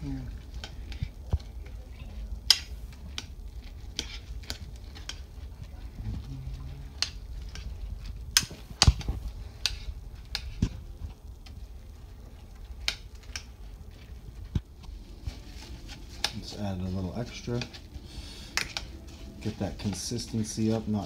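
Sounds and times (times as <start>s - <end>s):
soft mushing of oats: 0.0s - 21.0s.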